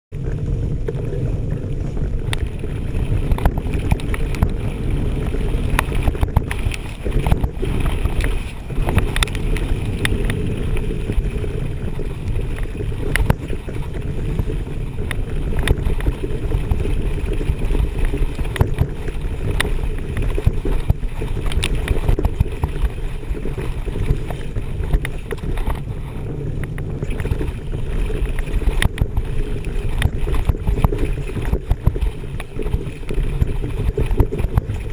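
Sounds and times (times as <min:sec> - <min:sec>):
bike rattling over bumps: 0:00.1 - 0:34.9
tyres rumbling on gravel: 0:00.1 - 0:34.9
wind on microphone: 0:00.1 - 0:34.9.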